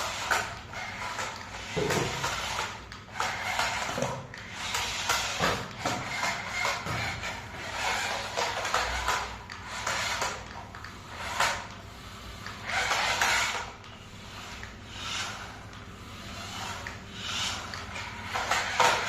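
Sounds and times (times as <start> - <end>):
rubbing and scraping: 0.0 - 19.0.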